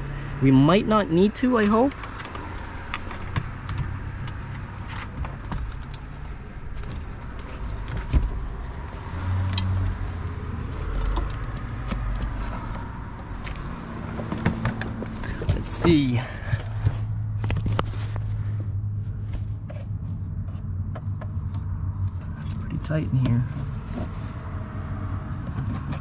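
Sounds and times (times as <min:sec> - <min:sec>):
steady low rumble: 0:00.0 - 0:25.7.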